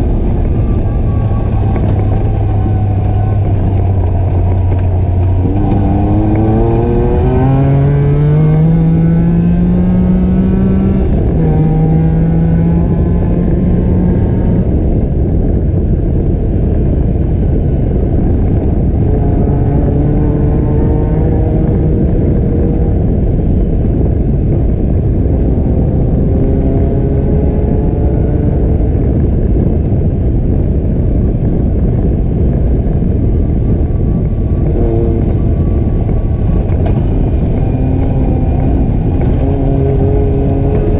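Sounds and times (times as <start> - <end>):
atv engine accelerating: 0.0 - 15.1, 18.6 - 40.9
steady rushing noise: 0.0 - 40.9.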